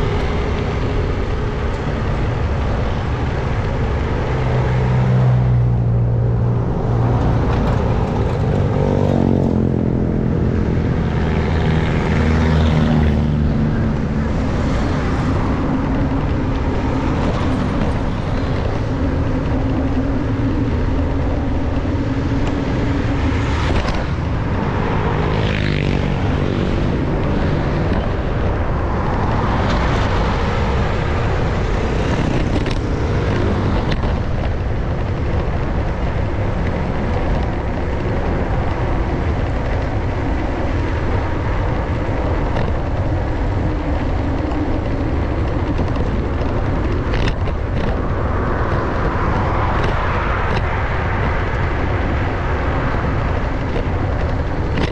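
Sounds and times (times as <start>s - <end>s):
road traffic passing: 0.0s - 54.9s
wind rumble on microphone: 0.0s - 54.9s.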